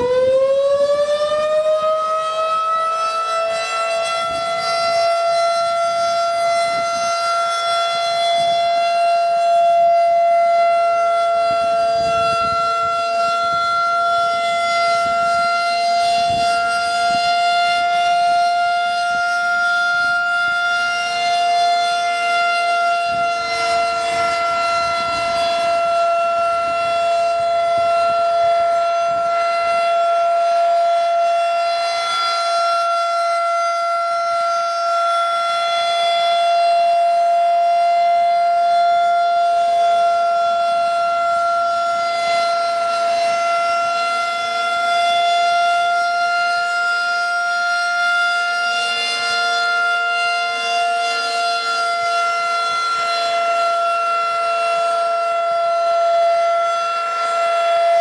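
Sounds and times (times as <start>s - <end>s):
rotating siren alert tone: 0.0s - 58.0s.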